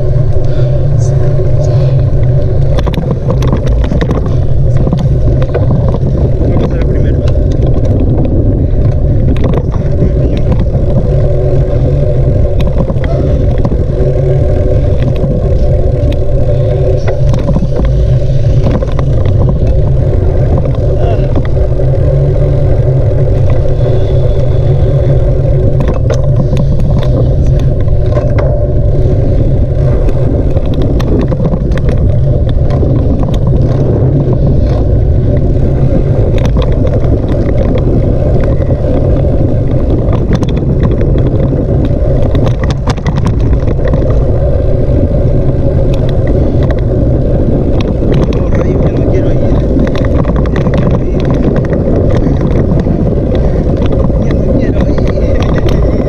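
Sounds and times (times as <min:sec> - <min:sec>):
bicycle clicks and rattles: 0:00.0 - 0:56.0
wind buffeting microphone: 0:00.0 - 0:56.0.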